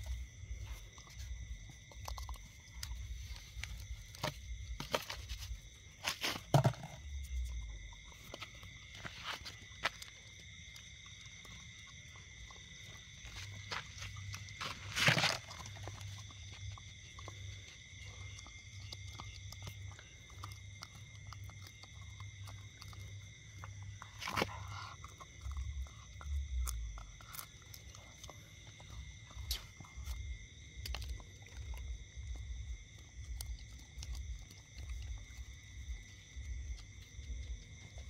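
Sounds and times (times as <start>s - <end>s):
dog crunching a bone: 0.0s - 38.0s.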